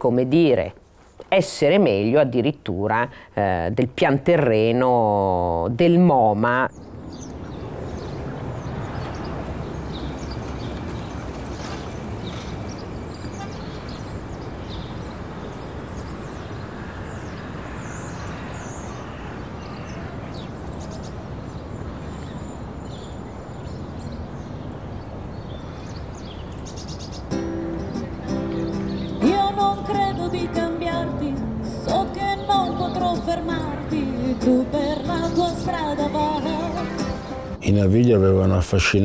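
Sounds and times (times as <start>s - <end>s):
distant traffic: 0.0s - 39.0s
small birds chirping: 5.6s - 37.9s.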